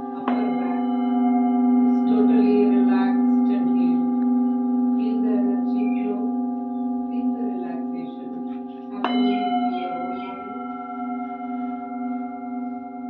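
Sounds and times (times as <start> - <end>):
metal singing bowls ringing: 0.0 - 13.0
singing bowl struck: 0.0 - 13.0.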